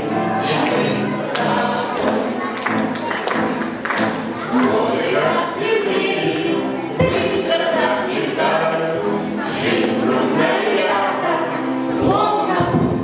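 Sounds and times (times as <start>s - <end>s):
group of people singing: 0.0s - 2.5s, 4.4s - 13.0s.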